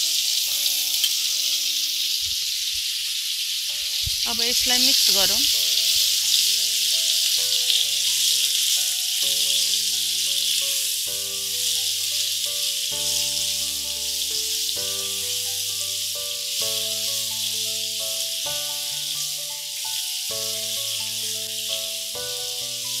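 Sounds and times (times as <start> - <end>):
food sizzling in oil: 0.0 - 23.0
spatula stirring in pan: 3.5 - 22.1
background music of sustained chords: 3.7 - 23.0.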